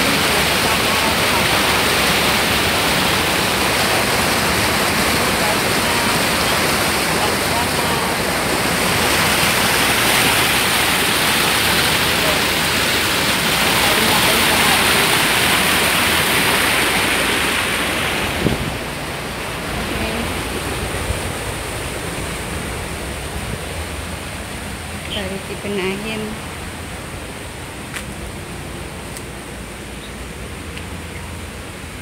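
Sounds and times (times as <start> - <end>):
stream rushing over boulders: 0.0 - 32.0.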